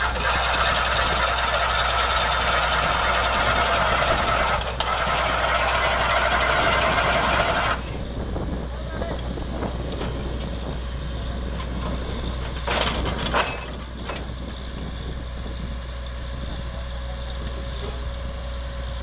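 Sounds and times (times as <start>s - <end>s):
drilling rig droning: 0.0s - 19.0s.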